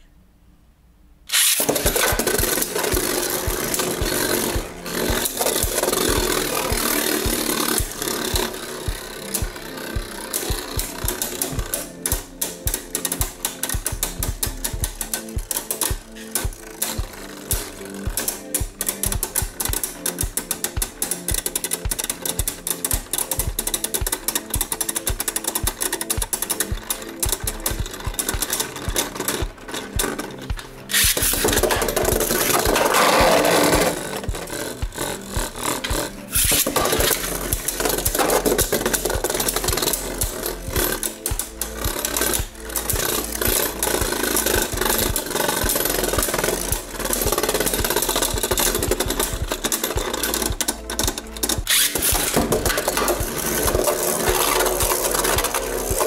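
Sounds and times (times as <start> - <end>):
background music with steady beat: 1.3 - 56.0
spinning tops whirring and clashing: 1.3 - 56.0.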